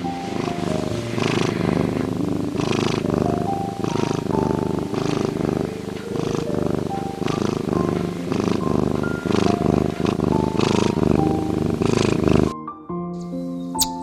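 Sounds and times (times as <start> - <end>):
cat purring: 0.0 - 12.5
soft music with held notes: 0.0 - 14.0.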